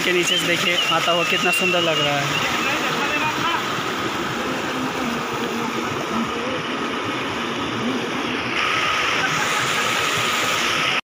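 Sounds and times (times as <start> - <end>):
stream rushing over boulders: 0.0 - 11.0.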